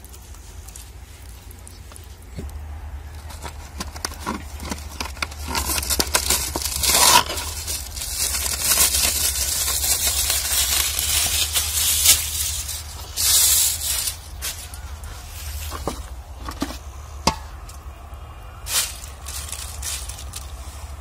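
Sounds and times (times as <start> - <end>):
aluminium foil rustling and crinkling: 0.0 - 21.0.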